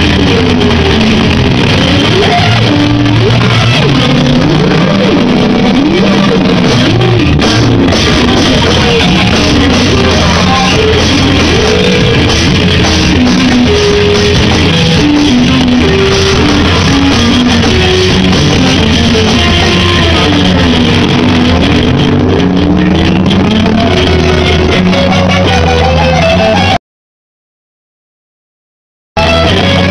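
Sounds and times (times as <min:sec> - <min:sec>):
drum kit: 0:00.0 - 0:26.8, 0:29.2 - 0:29.9
electric guitar: 0:00.0 - 0:26.8, 0:29.2 - 0:29.9.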